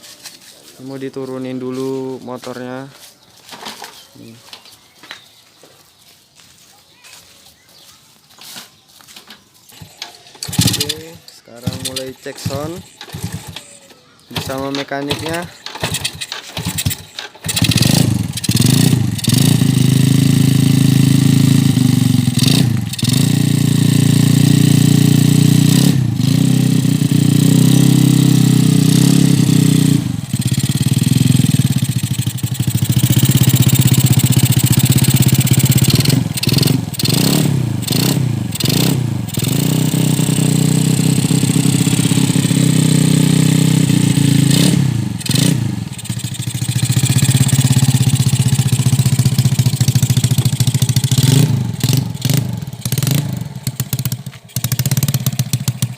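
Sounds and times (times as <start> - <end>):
motorcycle engine revving: 9.7 - 55.9.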